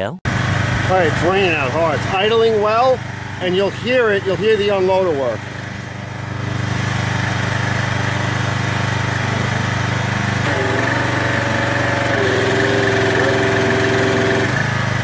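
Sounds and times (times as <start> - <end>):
pressure washer engine running: 0.3 - 15.0
pump whine: 0.3 - 15.0.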